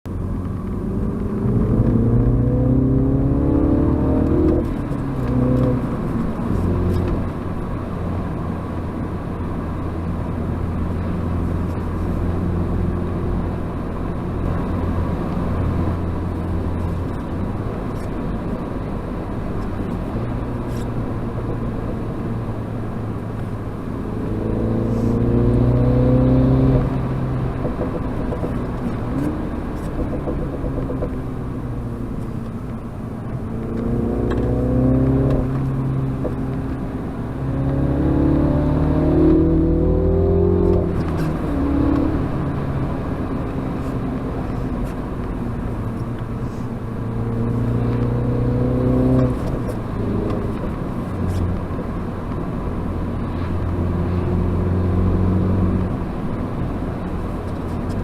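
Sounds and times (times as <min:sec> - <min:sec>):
road noise: 0:00.0 - 0:58.0
car engine accelerating: 0:00.1 - 0:58.0.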